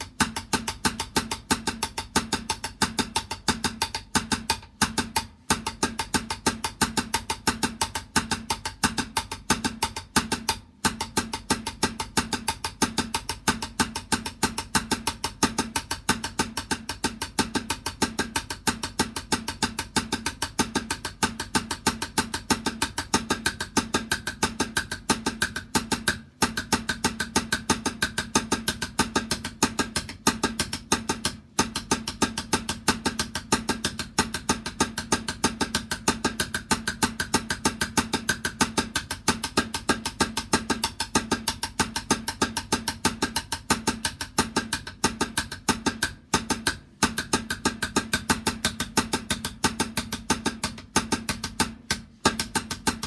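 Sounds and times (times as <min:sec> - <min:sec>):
fast drumming: 0:00.0 - 0:53.0.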